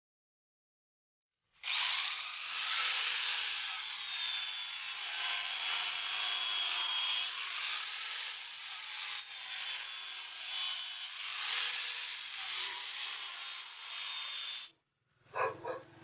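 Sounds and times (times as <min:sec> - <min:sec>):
angle grinder grinding steel: 0:01.6 - 0:14.7.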